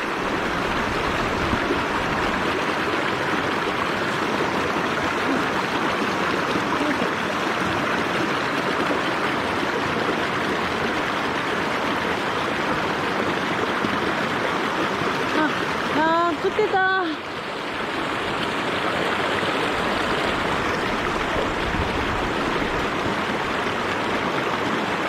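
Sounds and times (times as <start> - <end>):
stream water rushing over rocks: 0.0 - 25.0.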